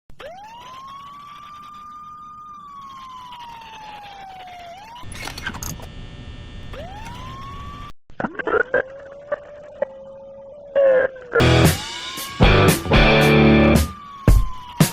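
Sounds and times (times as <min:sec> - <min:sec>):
fire truck siren wailing: 0:00.2 - 0:05.2, 0:06.7 - 0:07.9, 0:09.0 - 0:14.9.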